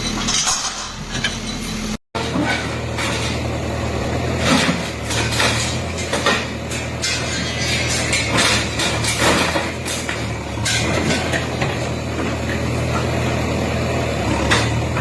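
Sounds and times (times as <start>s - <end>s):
bulldozer engine running: 0.0s - 15.0s
debris crashing: 2.2s - 15.0s.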